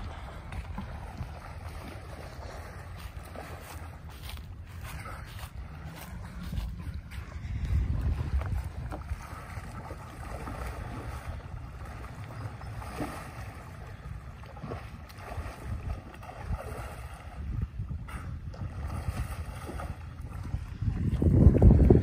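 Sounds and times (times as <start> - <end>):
dolphins splashing: 0.0 - 22.0
wind buffeting microphone: 0.0 - 22.0.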